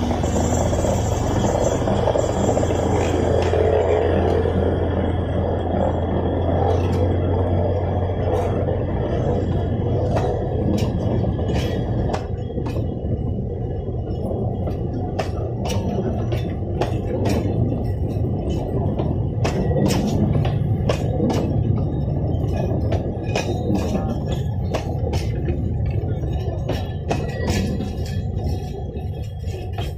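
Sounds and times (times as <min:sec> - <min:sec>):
train rumbling: 0:00.0 - 0:29.9
wheels clacking on track: 0:00.0 - 0:29.9.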